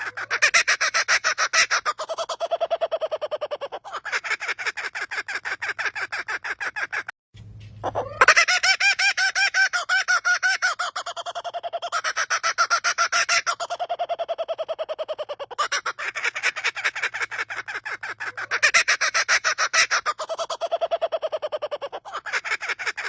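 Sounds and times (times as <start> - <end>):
bird calling in laughing notes: 0.0 - 7.1, 7.8 - 23.0.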